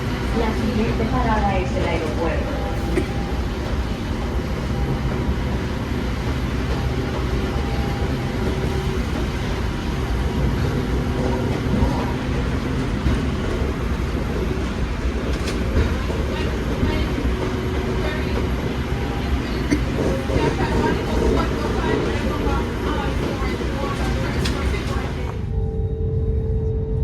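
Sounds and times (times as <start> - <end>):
train rumbling from inside: 0.0 - 27.0.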